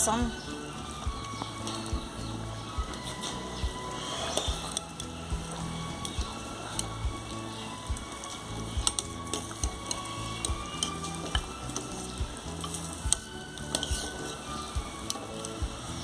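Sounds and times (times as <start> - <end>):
water boiling in a pot: 0.0 - 16.0.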